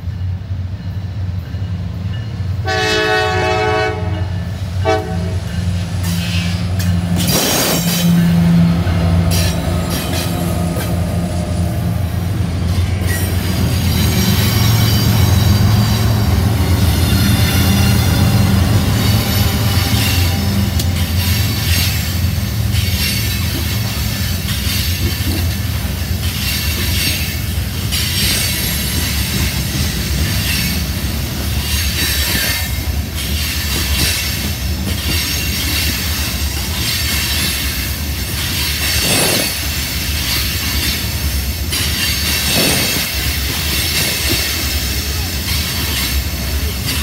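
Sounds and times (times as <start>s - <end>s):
freight train rolling past: 0.0s - 47.0s
steel wheels rumbling on rails: 0.0s - 47.0s.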